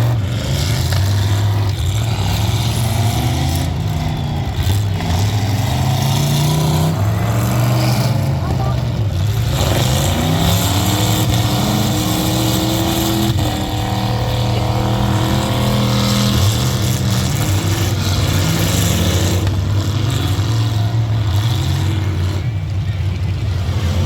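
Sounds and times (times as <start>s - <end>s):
truck engines revving: 0.0s - 24.0s.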